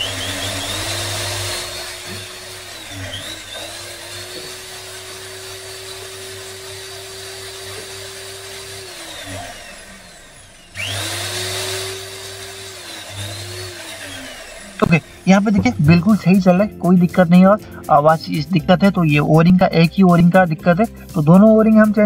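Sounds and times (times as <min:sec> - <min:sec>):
electric motor whine: 0:00.0 - 0:22.0.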